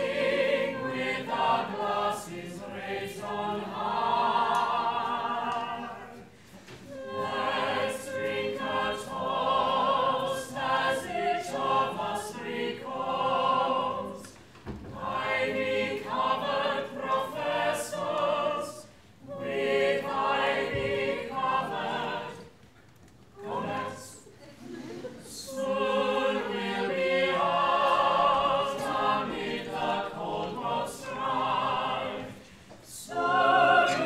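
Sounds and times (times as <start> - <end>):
choir singing: 0.0 - 34.0.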